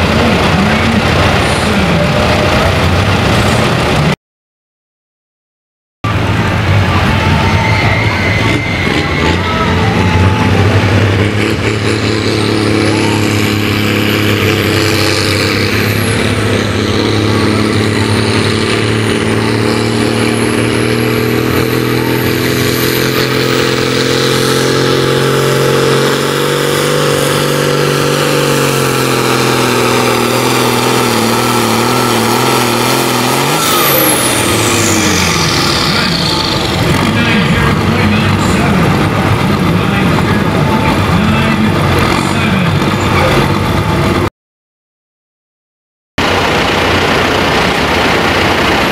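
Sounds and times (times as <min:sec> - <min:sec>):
tractor diesel engine under load: 0:00.0 - 0:04.2, 0:06.0 - 0:44.3, 0:46.2 - 0:48.9.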